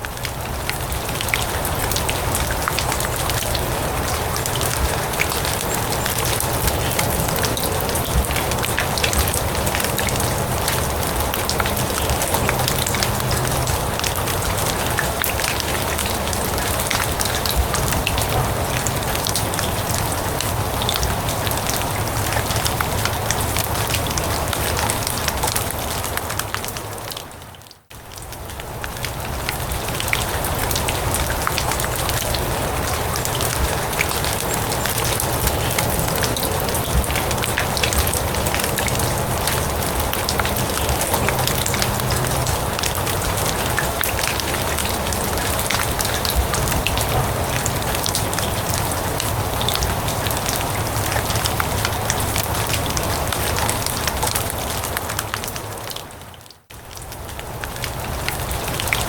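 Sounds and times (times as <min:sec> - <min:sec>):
rain falling on grass: 0:00.0 - 0:59.0.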